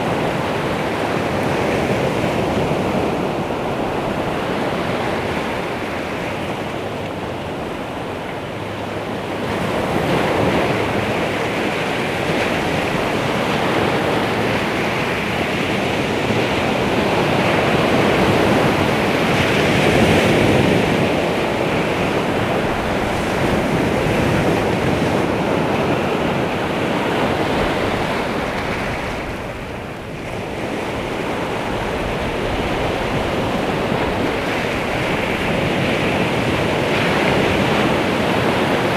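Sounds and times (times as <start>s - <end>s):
waves washing onto shore: 0.0s - 38.9s.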